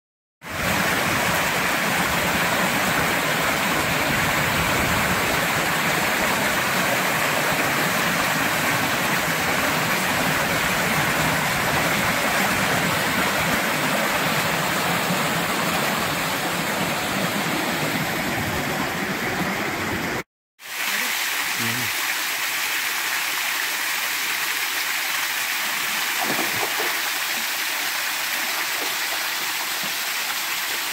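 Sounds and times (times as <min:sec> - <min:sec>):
creek water rushing over rocks: 0:00.4 - 0:30.9.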